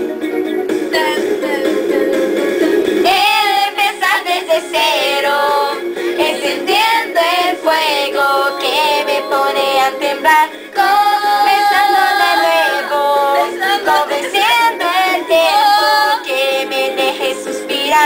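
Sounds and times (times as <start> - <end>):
women singing pop song: 0.7 - 18.0.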